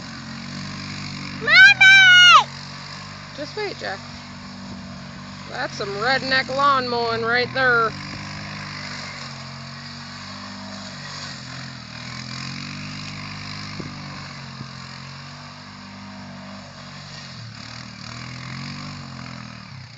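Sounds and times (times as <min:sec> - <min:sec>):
atv engine running: 0:00.0 - 0:19.9
mowing through tall weeds: 0:00.0 - 0:19.9.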